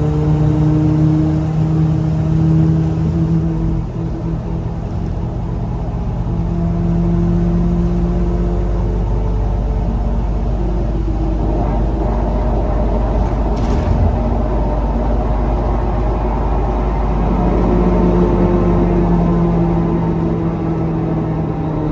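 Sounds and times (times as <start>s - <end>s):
bus engine rumble: 0.0s - 21.9s.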